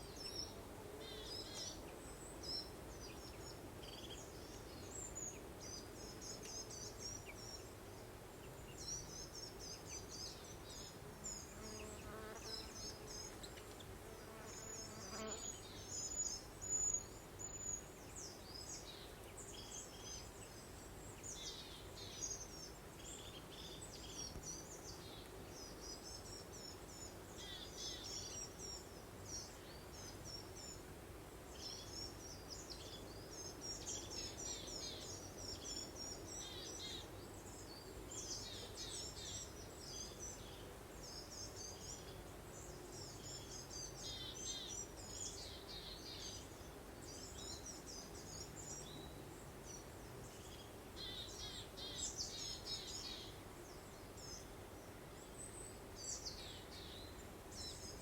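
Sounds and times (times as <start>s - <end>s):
soft breeze: 0.0s - 58.0s
songbirds chirping: 0.0s - 58.0s.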